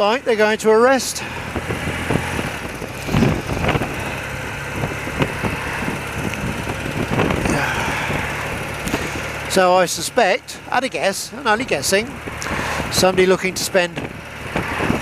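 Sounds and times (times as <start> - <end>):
motorcycle engine running: 0.0 - 15.0
traffic noise: 0.0 - 15.0.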